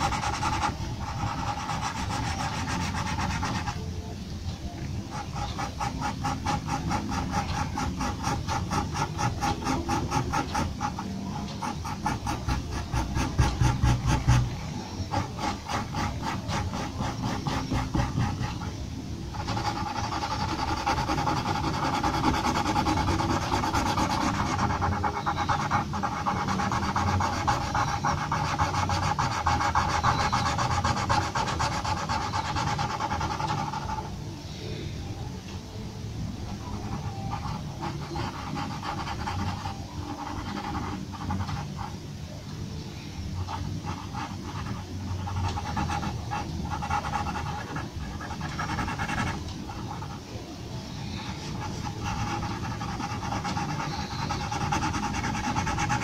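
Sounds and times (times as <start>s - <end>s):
pencil scratching on paper: 0.0s - 3.9s, 5.0s - 34.1s, 36.5s - 41.9s, 43.4s - 50.2s, 51.1s - 56.0s.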